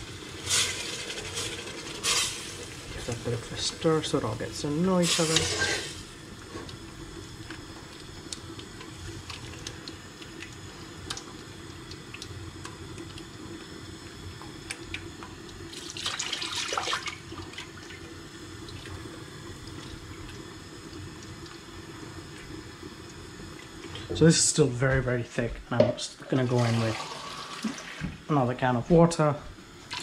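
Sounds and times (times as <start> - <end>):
water running from tap: 0.0 - 24.2, 26.3 - 28.3.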